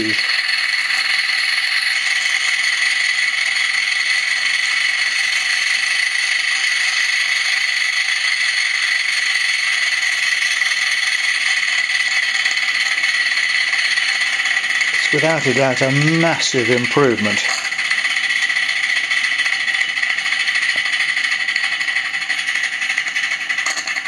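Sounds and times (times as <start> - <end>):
steam locomotive exhaust hiss: 0.0 - 24.0.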